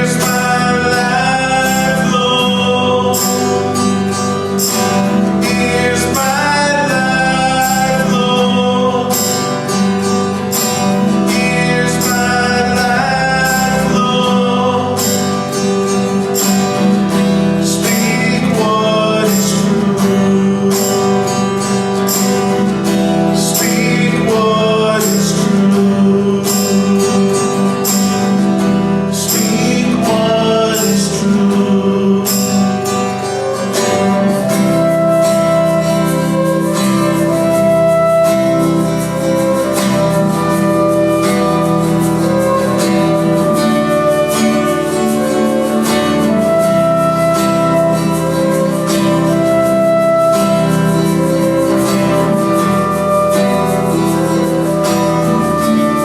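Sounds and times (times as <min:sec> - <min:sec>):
song with singing over guitar: 0:00.0 - 0:56.0.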